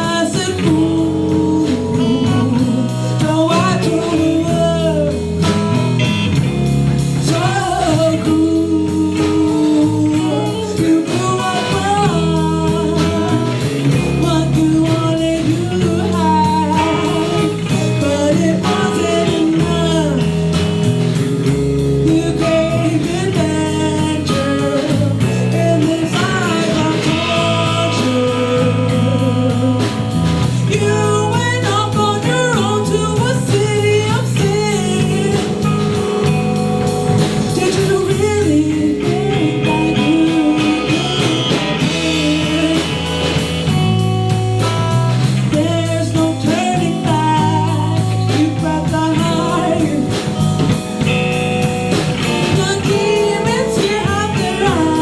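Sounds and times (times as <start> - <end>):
person singing: 0.0 - 51.2, 51.9 - 55.0
rock band playing live: 0.0 - 55.0.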